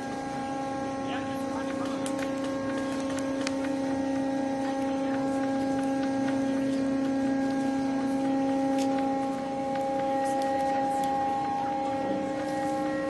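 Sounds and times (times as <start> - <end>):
electronic hum: 0.0 - 13.0.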